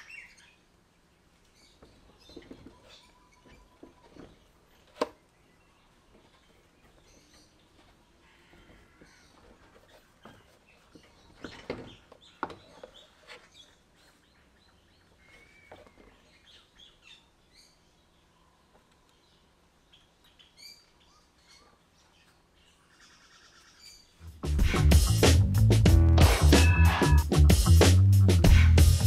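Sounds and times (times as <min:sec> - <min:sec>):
faint birds chirping: 0:00.0 - 0:25.2.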